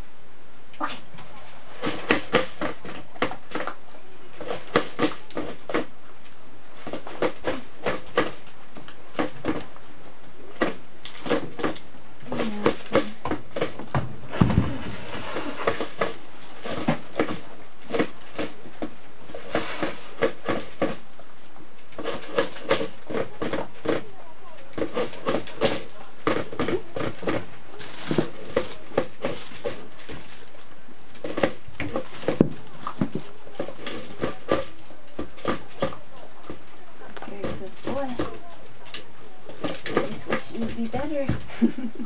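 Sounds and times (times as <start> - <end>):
dog eating from plastic bowl: 0.8 - 42.0.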